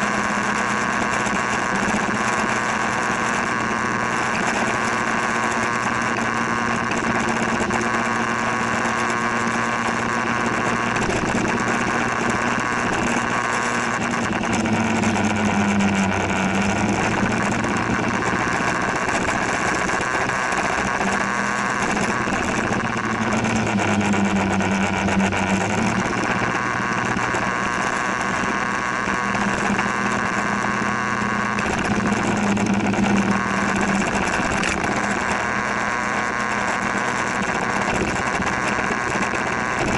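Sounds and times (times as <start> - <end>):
motor scooter engine running: 0.0 - 39.9.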